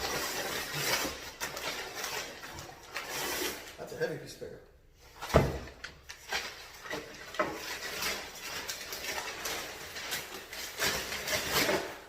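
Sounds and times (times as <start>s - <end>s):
packing paper rustling: 0.0s - 3.8s, 5.2s - 12.0s.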